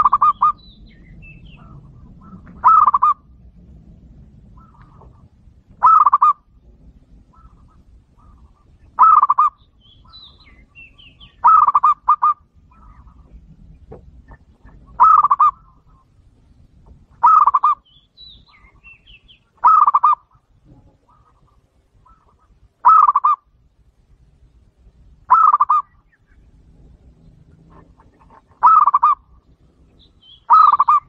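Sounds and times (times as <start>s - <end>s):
dove cooing: 0.0s - 16.2s, 17.1s - 17.8s, 18.4s - 23.5s, 25.3s - 31.0s.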